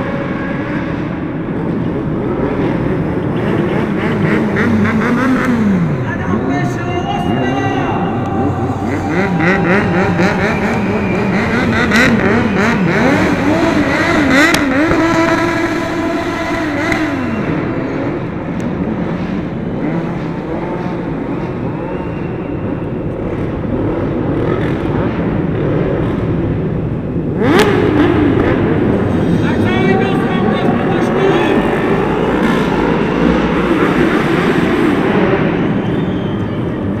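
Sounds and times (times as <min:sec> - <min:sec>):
motorcycle engine revving: 0:00.0 - 0:06.8, 0:07.4 - 0:37.0.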